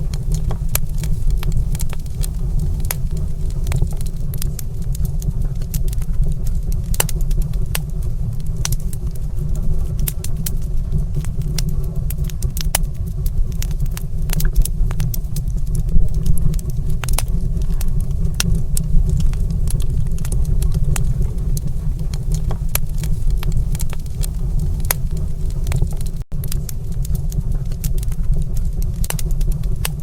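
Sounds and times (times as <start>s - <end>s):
fire crackling and popping: 0.0s - 30.0s
steady low rumble: 0.0s - 30.0s.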